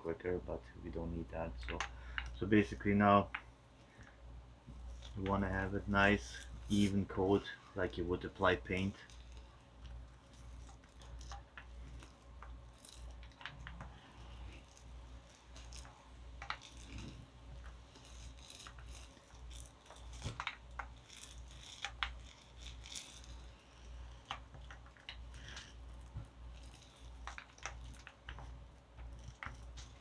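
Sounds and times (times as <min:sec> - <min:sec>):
sticky glue crackling: 0:00.8 - 0:30.0.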